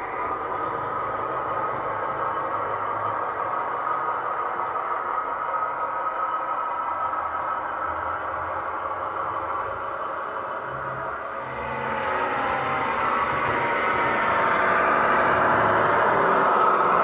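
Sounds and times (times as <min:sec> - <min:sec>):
model train diesel engine sound: 0:00.0 - 0:17.0.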